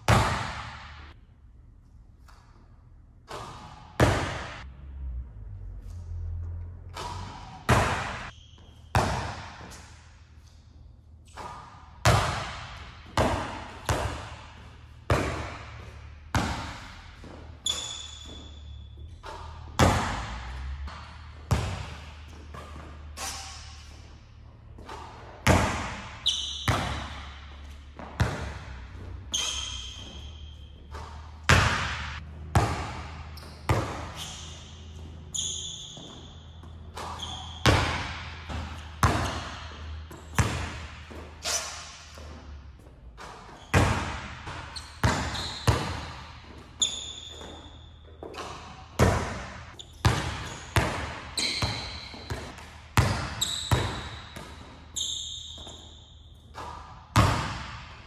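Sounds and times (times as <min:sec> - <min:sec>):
basketball bouncing in gym: 0:00.0 - 0:01.2, 0:03.2 - 0:04.7, 0:05.8 - 0:58.0
sneakers squeaking on court: 0:03.3 - 0:04.6, 0:05.8 - 0:58.0.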